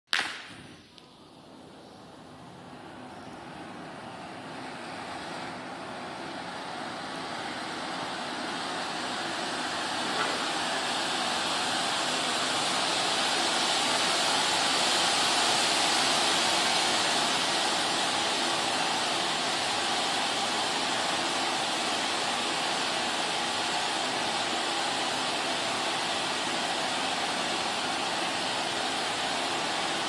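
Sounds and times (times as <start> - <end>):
firework fountain hissing: 0.2 - 30.0.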